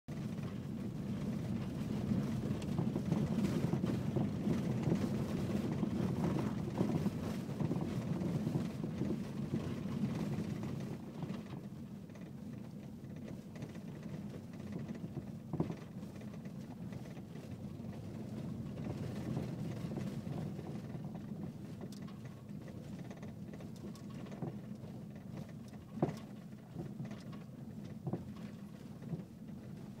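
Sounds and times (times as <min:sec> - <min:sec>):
car road rumble: 0:00.1 - 0:30.0
rattles and knocks from car rear: 0:02.0 - 0:30.0.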